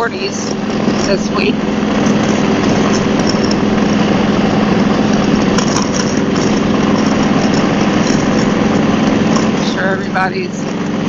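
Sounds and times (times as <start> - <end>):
wind rushing over microphone: 0.0 - 10.6
motorcycle engine running: 0.0 - 11.0.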